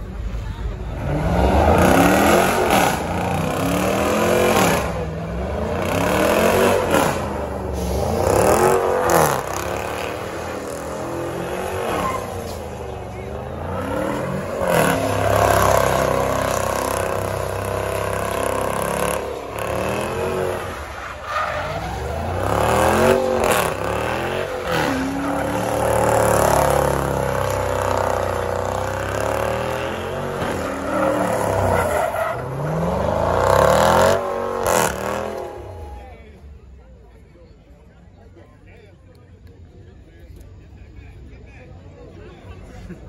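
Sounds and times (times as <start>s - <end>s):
car engine revving: 0.8s - 36.1s
tires squealing on pavement: 0.9s - 36.2s.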